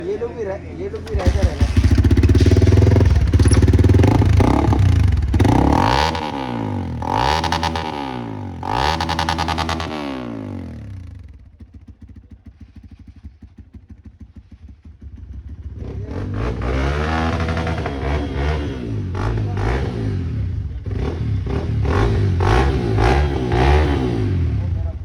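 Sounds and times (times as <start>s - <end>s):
motorcycle engine idling and revving: 1.0s - 25.0s.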